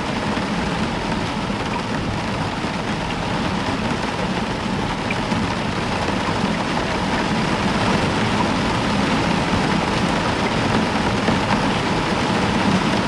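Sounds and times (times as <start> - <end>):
heavy rain on a roof: 0.0 - 13.0.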